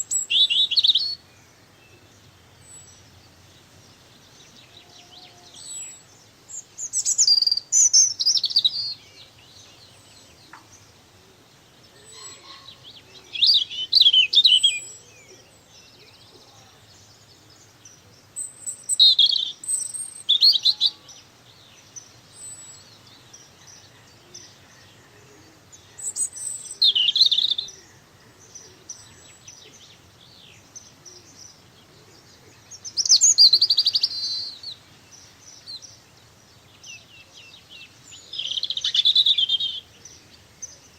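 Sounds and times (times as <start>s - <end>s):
songbird singing trills: 0.0s - 40.9s.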